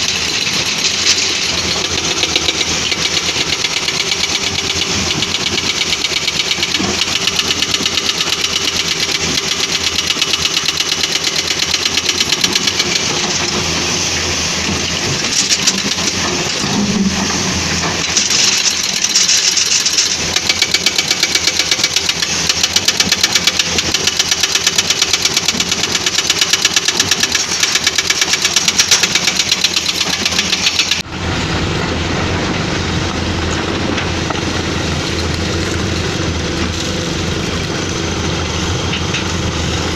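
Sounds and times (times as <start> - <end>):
excavator diesel engine clattering: 0.0 - 39.9.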